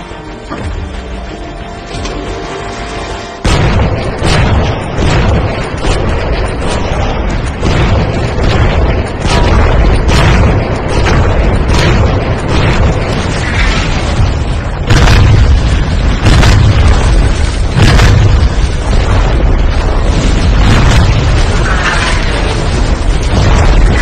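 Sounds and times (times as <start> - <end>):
continuous low rumble: 0.0 - 24.0
explosions and weapon fire: 3.4 - 24.0.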